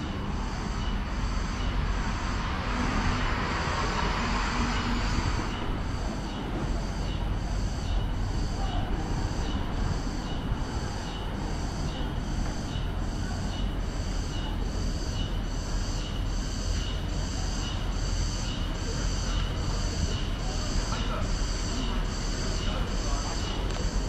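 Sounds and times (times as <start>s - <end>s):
cicadas buzzing: 0.0s - 24.0s
low street rumble: 0.0s - 24.0s.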